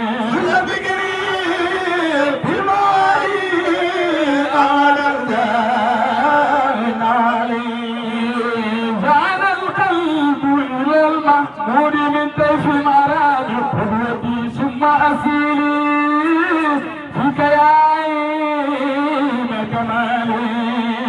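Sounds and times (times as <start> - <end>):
men chanting through microphones: 0.0 - 21.0.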